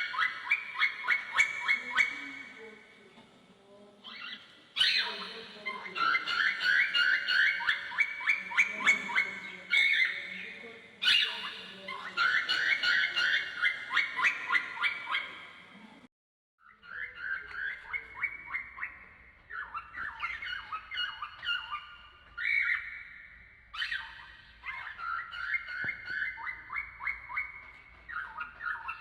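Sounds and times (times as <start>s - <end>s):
cockatiel chirping: 0.0s - 2.5s, 4.0s - 15.4s, 16.6s - 29.0s.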